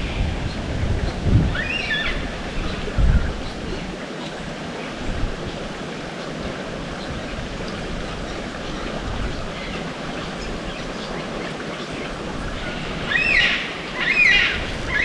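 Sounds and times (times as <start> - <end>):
water rushing over rocks: 0.0 - 15.0
wind buffeting microphone: 0.0 - 15.0.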